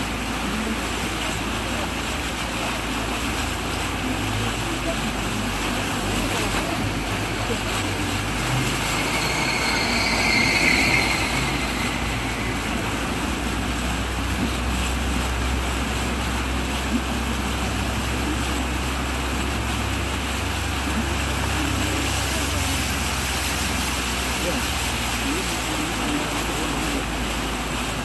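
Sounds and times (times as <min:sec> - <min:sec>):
van engine humming: 0:00.0 - 0:28.0
wheels churning water: 0:00.0 - 0:28.0.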